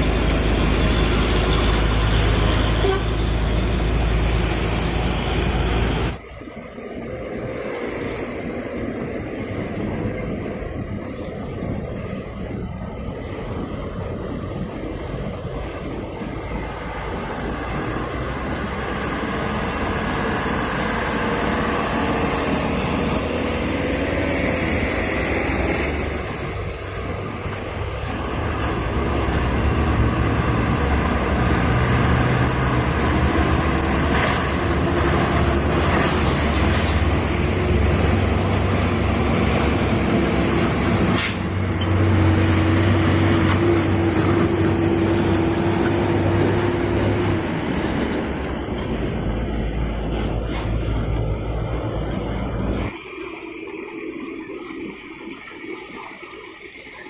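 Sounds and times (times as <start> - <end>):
heavy vehicle engine running: 0.0 - 57.0
road noise: 0.0 - 57.0.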